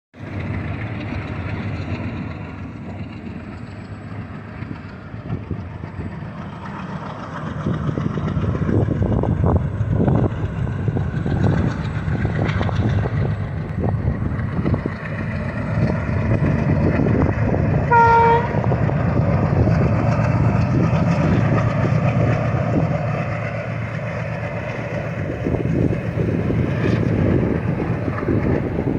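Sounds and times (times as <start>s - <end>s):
train running on tracks: 0.2s - 28.9s.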